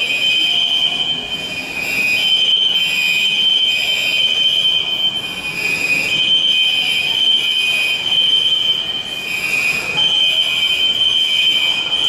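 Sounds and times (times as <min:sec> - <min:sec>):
fire alarm tone: 0:00.0 - 0:12.0.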